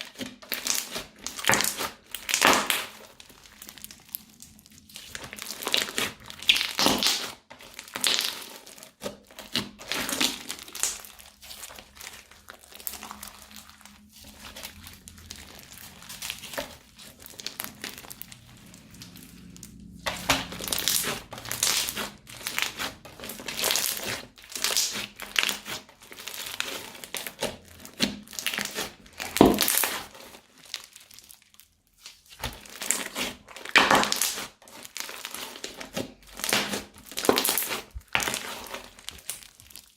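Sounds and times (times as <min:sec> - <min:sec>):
crunchy slime crackling: 0:00.0 - 0:39.9
plastic bags crinkling: 0:00.5 - 0:39.9.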